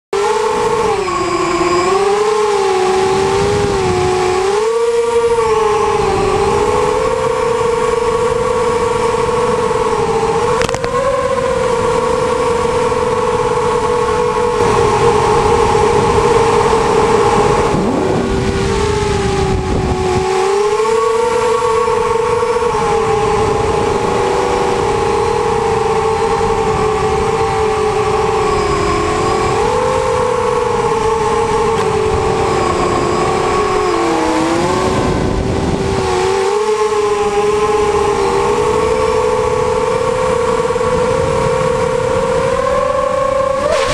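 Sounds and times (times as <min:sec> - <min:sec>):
drone motors and propellers whining: 0:00.1 - 0:43.9.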